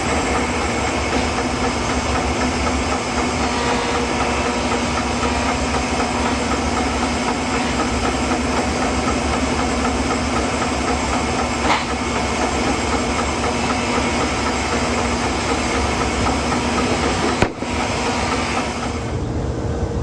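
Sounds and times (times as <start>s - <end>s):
sawmill cutting a log: 0.0s - 19.1s.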